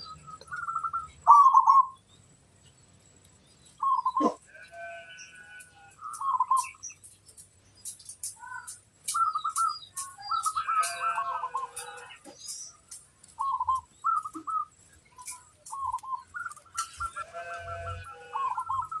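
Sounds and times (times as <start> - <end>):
doves cooing: 0.0 - 2.0, 3.8 - 6.8, 8.4 - 19.0
birds chirping sharply: 0.0 - 19.0.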